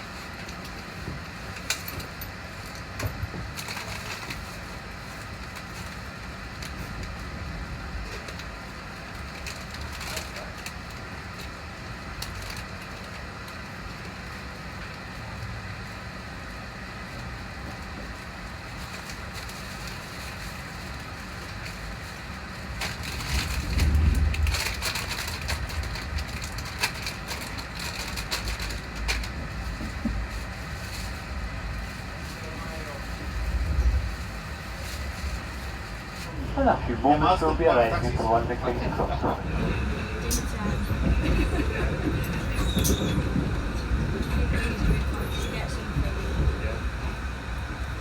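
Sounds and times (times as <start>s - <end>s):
train rumble: 0.0s - 48.0s.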